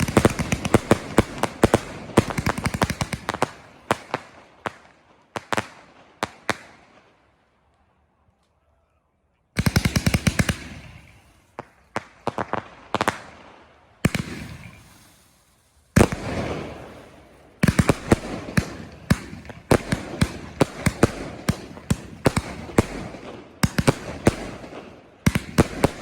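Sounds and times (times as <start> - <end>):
fireworks bangs: 0.0 - 7.1, 9.6 - 26.0
fireworks crackling: 0.0 - 7.9, 9.6 - 26.0.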